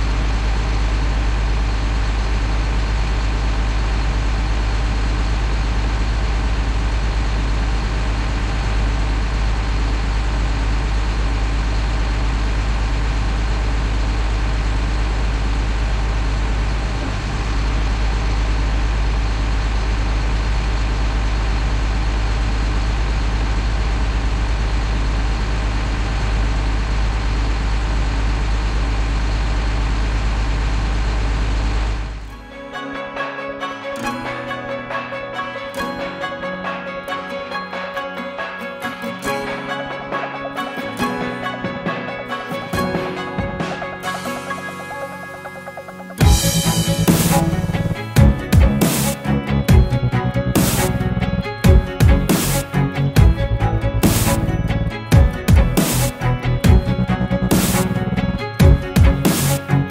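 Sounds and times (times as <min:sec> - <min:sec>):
diesel engine idling: 0:00.0 - 0:32.3, 0:39.7 - 0:59.9.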